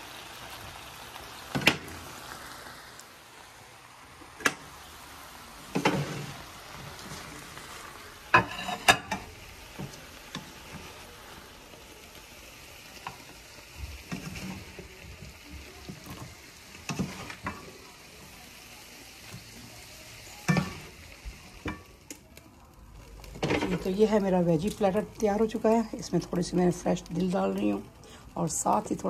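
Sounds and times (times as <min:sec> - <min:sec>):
vegetables sizzling in frying pan: 0:00.0 - 0:29.0.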